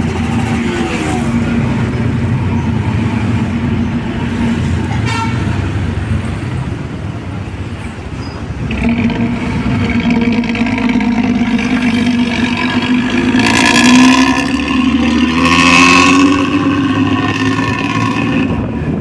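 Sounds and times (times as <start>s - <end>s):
diesel bus engine running: 0.0s - 19.0s.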